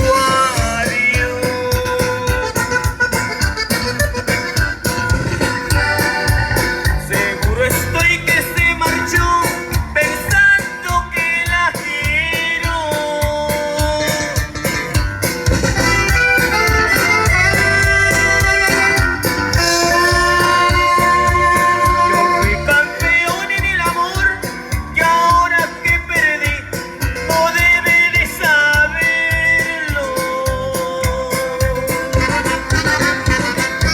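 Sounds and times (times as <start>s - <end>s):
bending melodic lead line: 0.0s - 33.9s
drum beat: 0.0s - 33.9s
live band playing: 0.0s - 33.9s.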